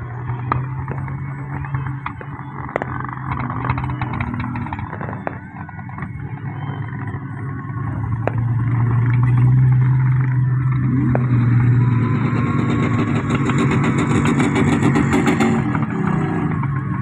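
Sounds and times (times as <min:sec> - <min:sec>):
engine crackles: 0:00.0 - 0:17.0
vehicle engine running loudly: 0:00.0 - 0:17.0.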